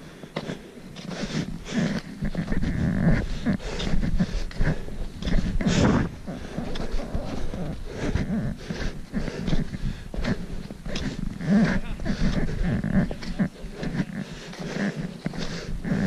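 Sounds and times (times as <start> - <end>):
footsteps crunching on snow: 0.0 - 16.0
heavy breathing: 0.0 - 16.0.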